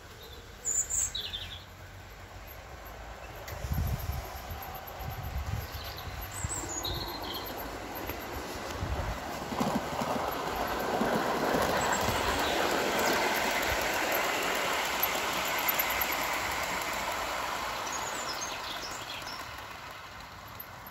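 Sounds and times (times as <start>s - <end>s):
model train rumbling on track: 0.0s - 20.9s.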